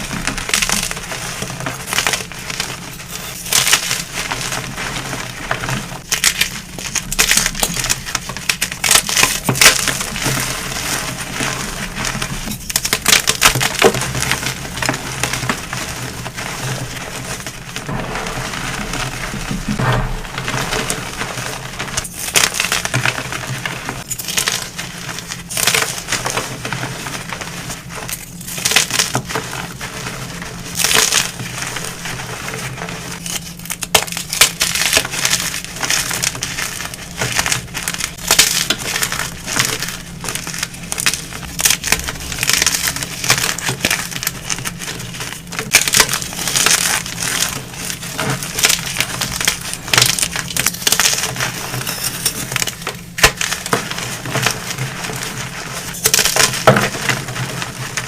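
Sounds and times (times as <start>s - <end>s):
chalk crunching by hand: 0.0s - 58.0s.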